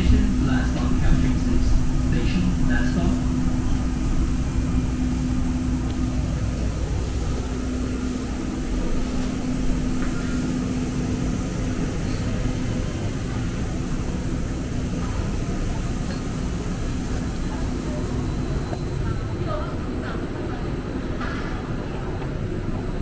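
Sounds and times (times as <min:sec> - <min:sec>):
light-rail car hum and drone: 0:00.0 - 0:23.0.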